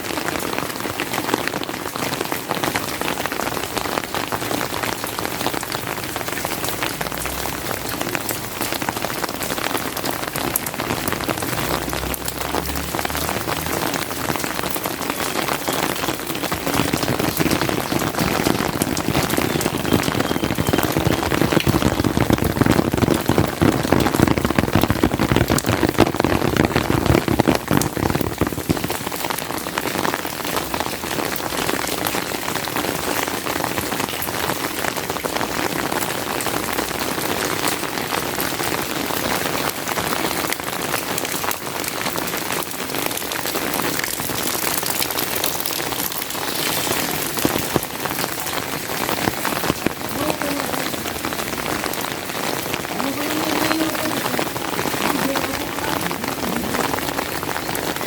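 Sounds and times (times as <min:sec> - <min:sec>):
steady rain with ticking drops: 0:00.0 - 0:58.0.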